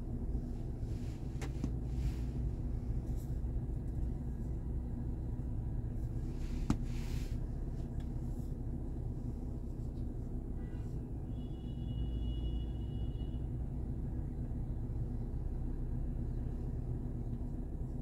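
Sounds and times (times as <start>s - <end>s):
vehicle rumbling: 0.0s - 18.0s.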